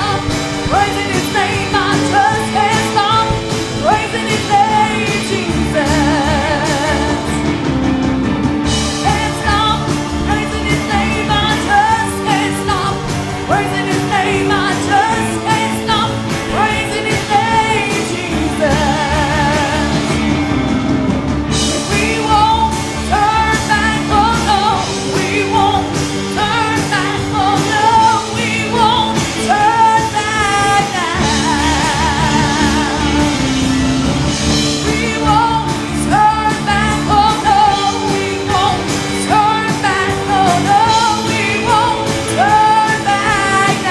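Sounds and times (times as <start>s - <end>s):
band with bass and drums: 0.0s - 43.9s
voices singing with vibrato: 0.0s - 43.9s.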